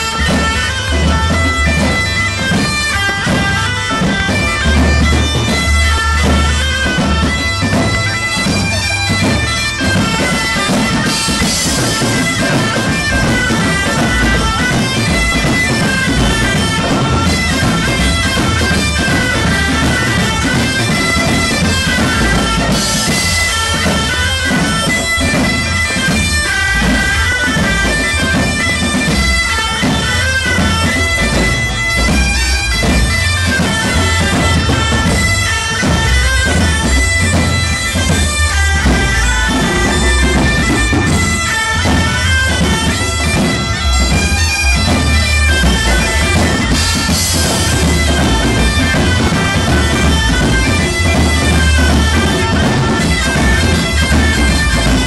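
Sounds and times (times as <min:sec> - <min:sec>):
low drum beat: 0:00.0 - 0:55.0
reedy wind instrument melody: 0:00.0 - 0:55.0.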